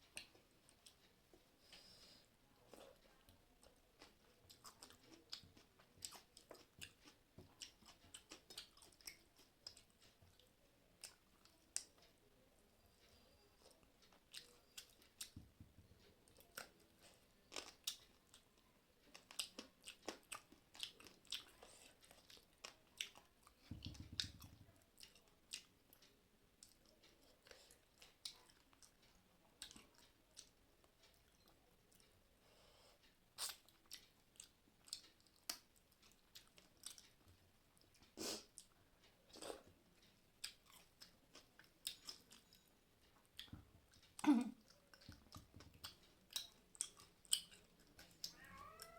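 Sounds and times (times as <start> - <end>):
person chewing food: 0.0 - 12.2, 12.9 - 48.9.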